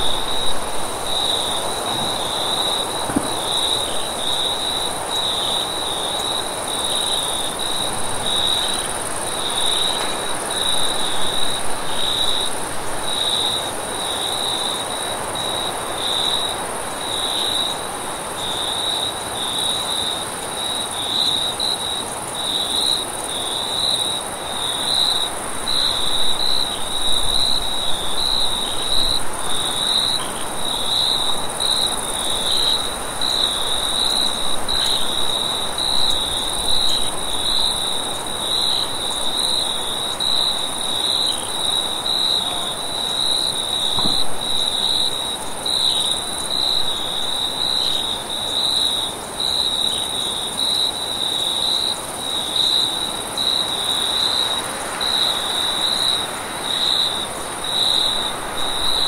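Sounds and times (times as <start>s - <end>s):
crickets chirping: 0.0s - 59.0s
steady high-pitched hiss: 0.0s - 59.0s.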